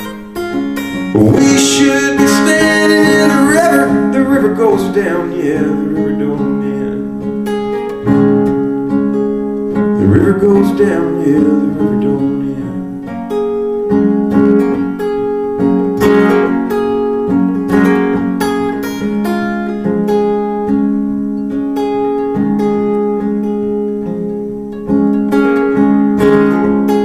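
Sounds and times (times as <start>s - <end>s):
acoustic guitar playing: 0.0s - 27.0s.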